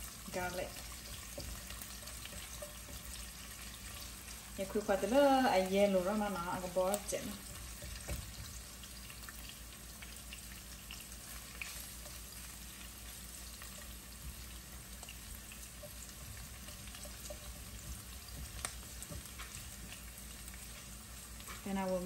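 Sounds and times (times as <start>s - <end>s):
garlic sizzling in oil: 0.0s - 22.0s
spatula tapping pan: 0.5s - 21.6s.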